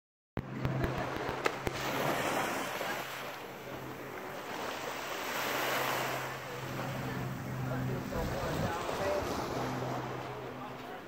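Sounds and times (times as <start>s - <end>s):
steady low hum: 0.4s - 11.0s
small waves washing onto sand: 0.6s - 11.0s.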